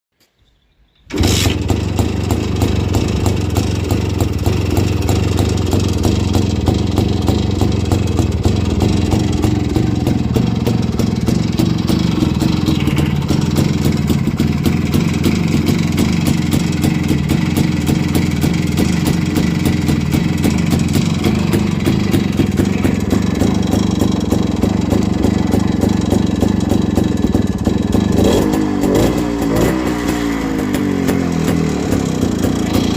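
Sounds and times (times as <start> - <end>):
motorcycle engine idling: 1.1 - 32.9.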